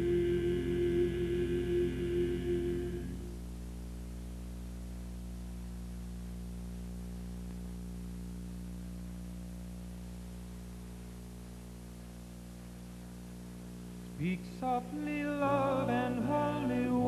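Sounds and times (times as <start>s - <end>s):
electrical mains hum: 0.0s - 17.0s
faint hiss: 0.0s - 17.0s.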